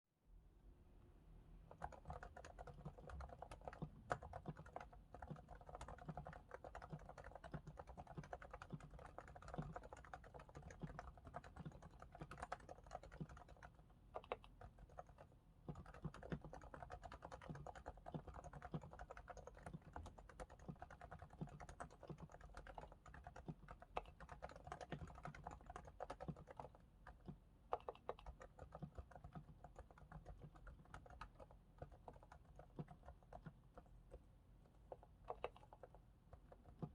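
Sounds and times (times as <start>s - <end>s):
keyboard typing quiet clicks: 1.7s - 36.9s.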